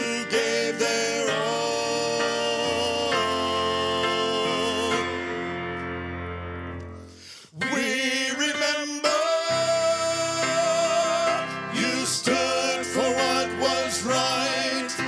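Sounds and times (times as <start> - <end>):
men singing: 0.0 - 5.6, 7.5 - 15.0
piano accompaniment: 0.0 - 15.0.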